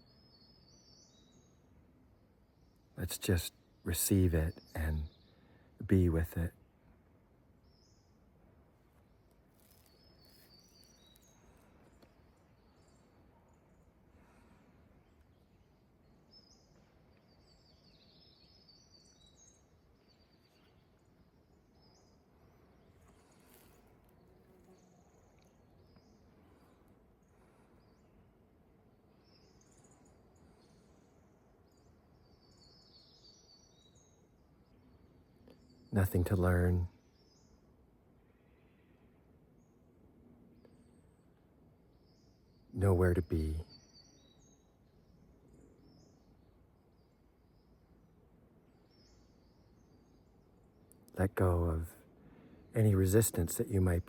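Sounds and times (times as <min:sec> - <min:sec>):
faint birdsong chirps and whistles: 0:00.0 - 0:54.0
low outdoor background hum: 0:00.0 - 0:54.0
background hiss: 0:02.4 - 0:40.8, 0:42.0 - 0:54.0.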